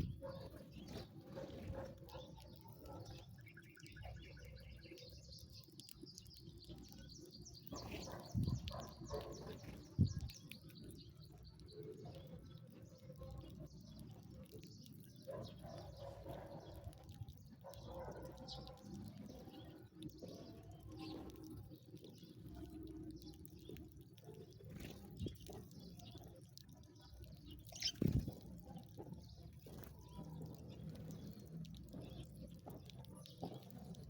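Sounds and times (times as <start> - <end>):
sparrows chirping: 0.0 - 34.0.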